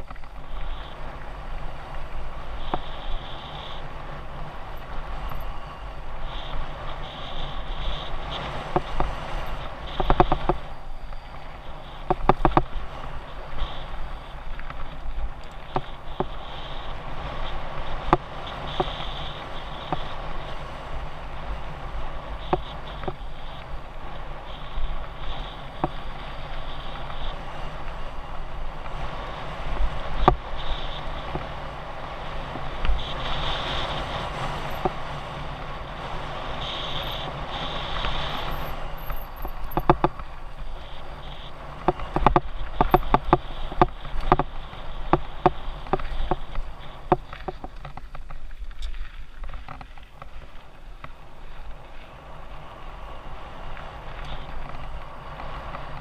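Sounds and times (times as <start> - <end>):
bike rattling over rough ground: 0.0 - 56.0
bike tyres on dirt trail: 0.0 - 56.0.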